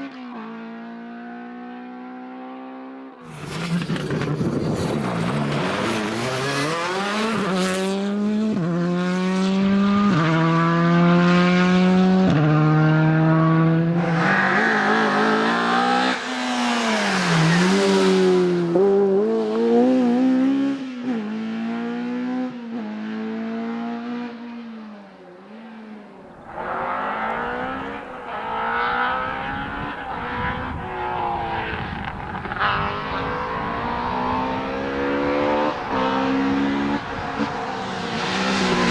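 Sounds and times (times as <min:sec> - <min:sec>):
rally car engine accelerating: 0:00.0 - 0:38.9.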